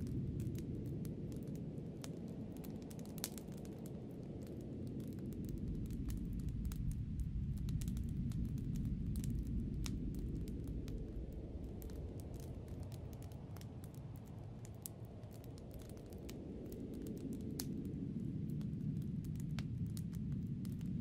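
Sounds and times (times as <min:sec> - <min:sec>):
sharp crackles: 0:00.0 - 0:21.0.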